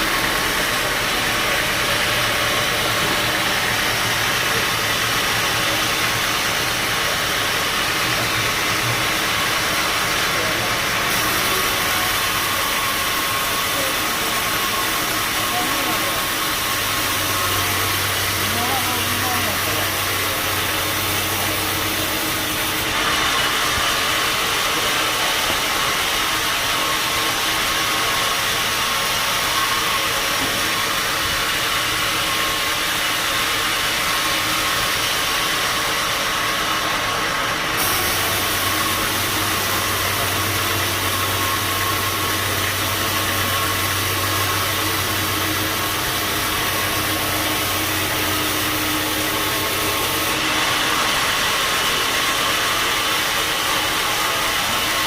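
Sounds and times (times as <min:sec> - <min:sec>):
band sawmill machinery running: 0:00.0 - 0:55.0.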